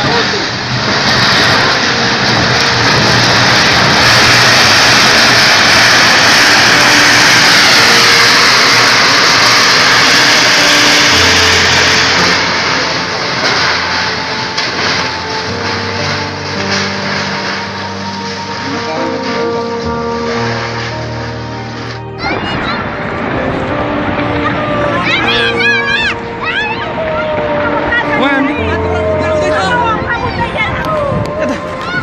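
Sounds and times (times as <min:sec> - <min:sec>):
loud steady rushing noise: 0:00.0 - 0:32.0.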